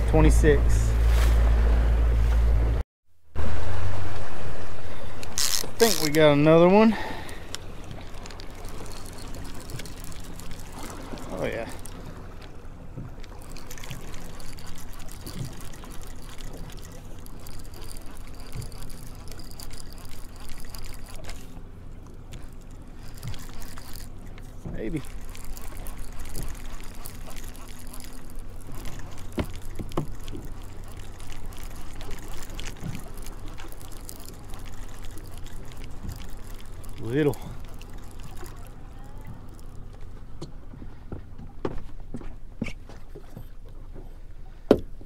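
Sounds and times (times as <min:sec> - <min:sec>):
outboard motor humming: 0:00.0 - 0:02.8, 0:03.4 - 0:45.0
water splashing against boat hull: 0:05.3 - 0:45.0.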